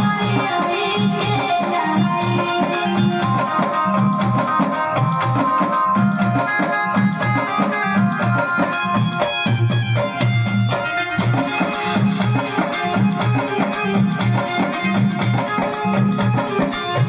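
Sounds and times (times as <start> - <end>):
music with bass beat: 0.0 - 17.0.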